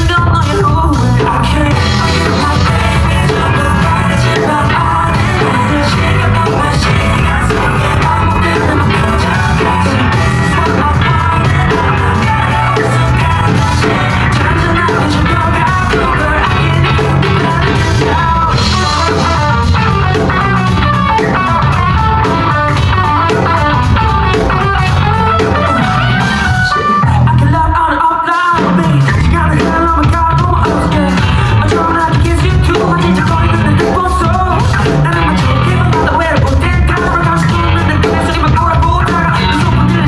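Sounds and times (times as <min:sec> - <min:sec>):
drum kit: 0:00.0 - 0:40.0
electric guitar: 0:00.0 - 0:40.0
person singing: 0:00.0 - 0:40.0.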